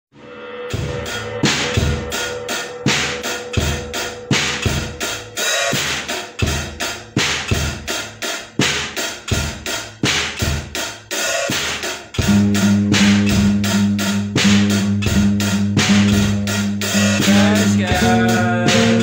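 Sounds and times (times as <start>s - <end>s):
drum kit playing steady beat: 0.2s - 19.0s.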